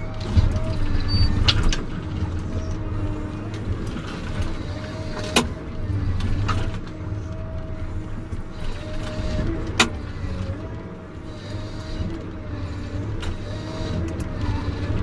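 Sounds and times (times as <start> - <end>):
harvester machine drone: 0.0 - 15.0.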